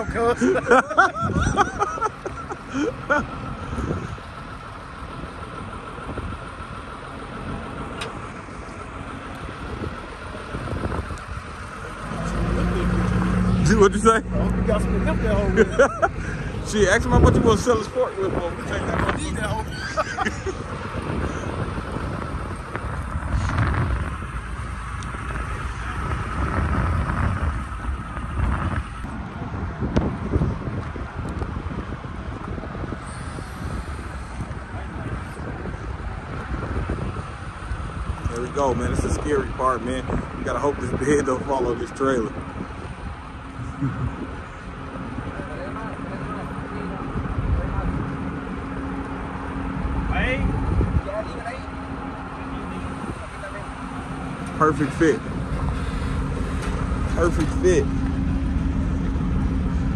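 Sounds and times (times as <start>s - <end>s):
wind buffeting microphone: 0.0s - 6.8s, 7.4s - 59.9s
engine idling with thin whine: 0.0s - 59.9s.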